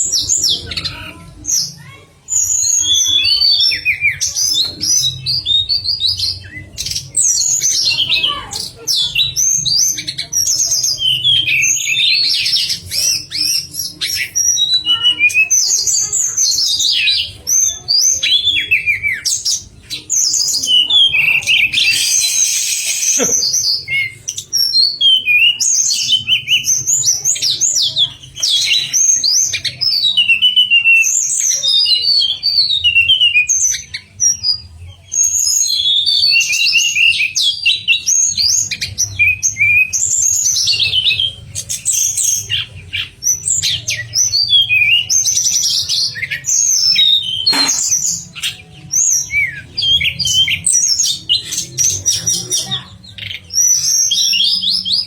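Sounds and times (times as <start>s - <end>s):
songbird singing chattering song: 0.0s - 55.0s.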